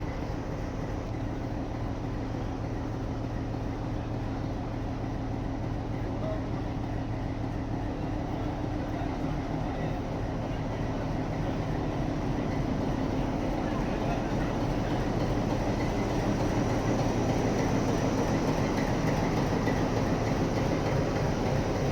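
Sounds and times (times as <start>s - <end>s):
train wheels rumbling: 0.0s - 21.9s.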